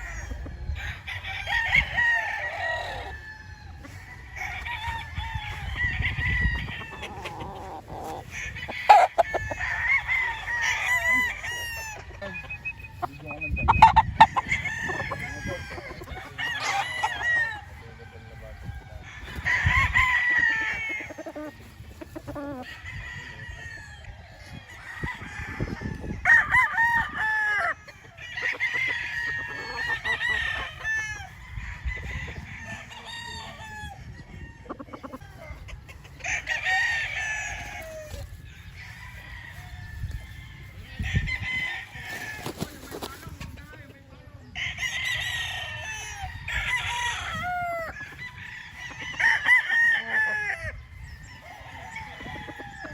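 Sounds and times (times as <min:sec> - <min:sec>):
hens clucking: 0:00.0 - 0:24.6, 0:25.3 - 0:52.9
roosters crowing: 0:00.0 - 0:52.9.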